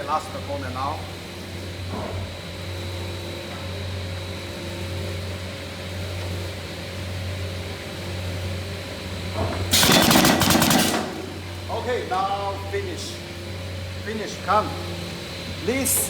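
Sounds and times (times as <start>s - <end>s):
workshop machinery hum: 0.0s - 16.0s.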